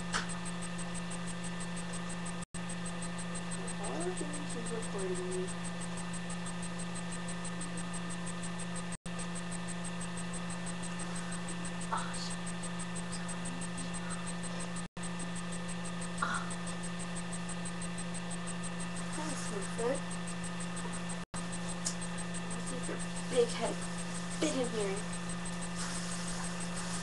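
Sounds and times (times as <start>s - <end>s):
electrical hum with hiss: 0.0s - 27.0s.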